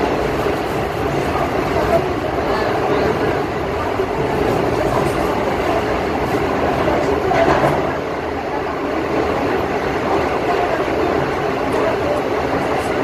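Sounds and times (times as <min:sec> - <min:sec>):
passenger train running noise: 0:00.0 - 0:13.0.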